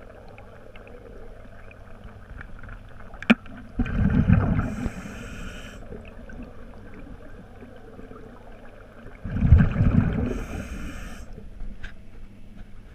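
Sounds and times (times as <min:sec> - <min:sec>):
underwater buzzing pulses: 0:00.0 - 0:11.6
swirl of water: 0:00.0 - 0:12.2.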